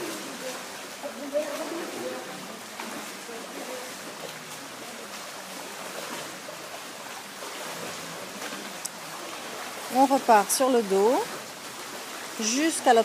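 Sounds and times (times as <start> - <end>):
small splashes: 0.0 - 13.0
water lapping in pool: 0.0 - 13.0.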